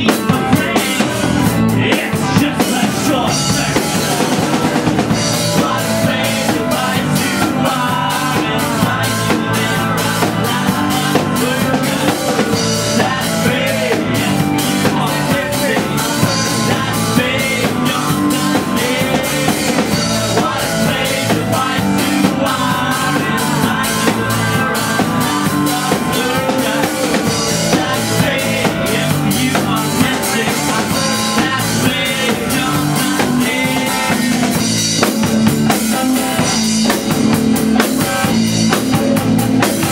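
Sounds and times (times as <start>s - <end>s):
drum kit steady beat: 0.0s - 39.9s
guitars: 0.0s - 39.9s
man singing lead: 0.0s - 39.9s.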